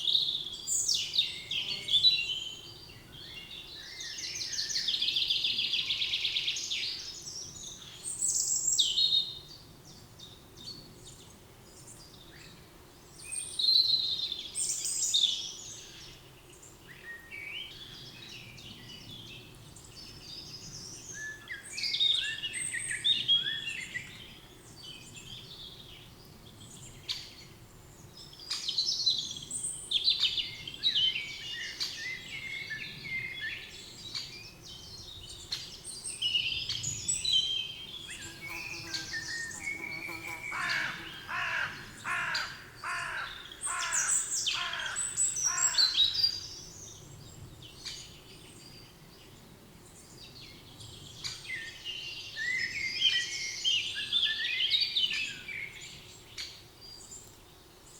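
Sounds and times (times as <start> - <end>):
songbirds chirping and warbling: 0.0 - 57.9.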